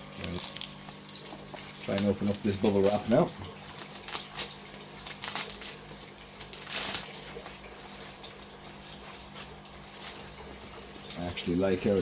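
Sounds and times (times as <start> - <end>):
bubble wrap crinkling: 0.0 - 11.3.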